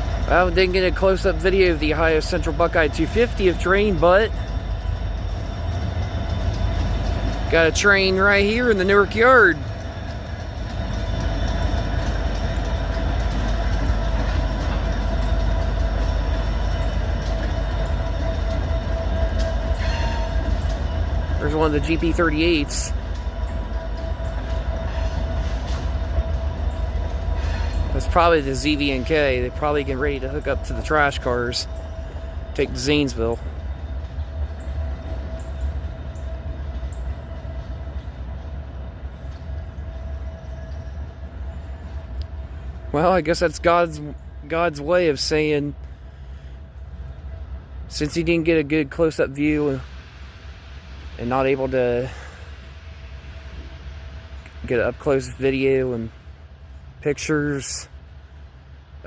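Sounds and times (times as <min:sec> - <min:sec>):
diesel locomotive engine rumble: 0:00.0 - 0:59.0
steady whine: 0:00.0 - 0:59.0.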